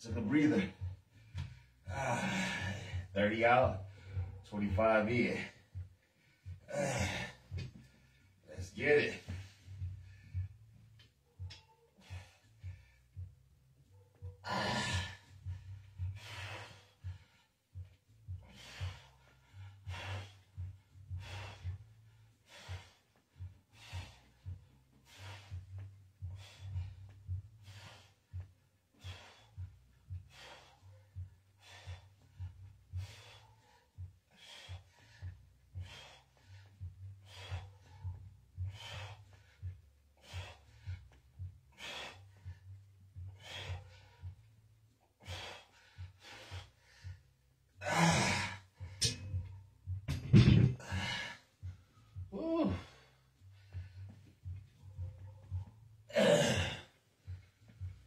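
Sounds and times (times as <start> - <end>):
steady low hum: 0.0 - 58.0
man breathing hard: 0.1 - 58.0.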